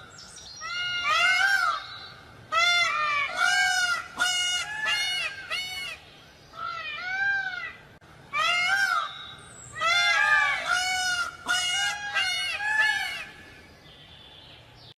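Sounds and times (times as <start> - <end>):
peacock calling: 0.0 - 13.8.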